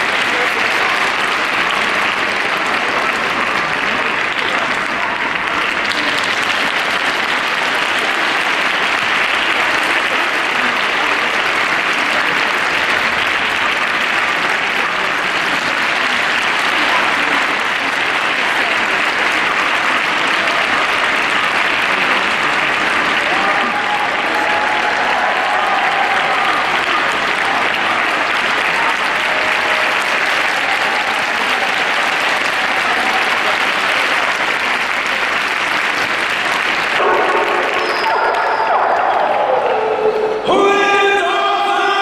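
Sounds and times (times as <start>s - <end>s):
audience applauding: 0.0s - 40.8s.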